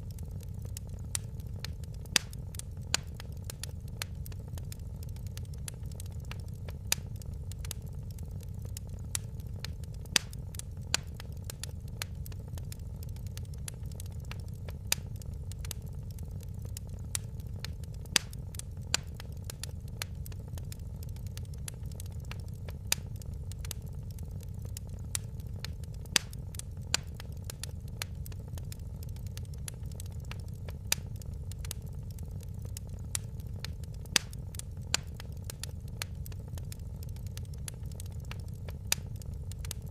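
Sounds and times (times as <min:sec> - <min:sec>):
fireplace fire crackling: 0:00.0 - 0:39.9
low rumble of flames: 0:00.0 - 0:39.9.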